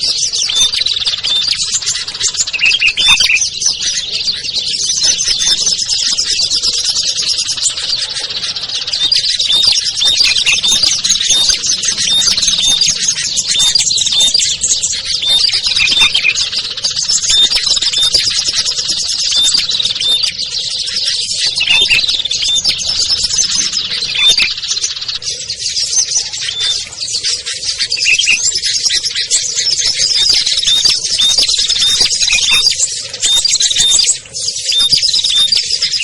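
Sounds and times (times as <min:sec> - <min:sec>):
songbirds chirping and trilling: 0:00.0 - 0:36.0.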